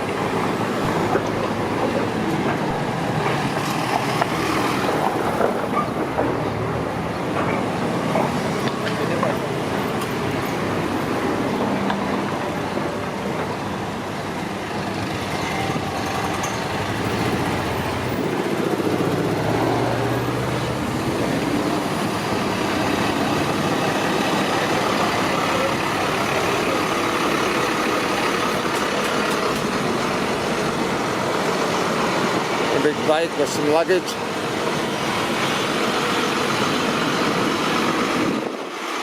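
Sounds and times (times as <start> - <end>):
engine passing close: 0.0 - 39.0
street traffic: 0.0 - 39.0.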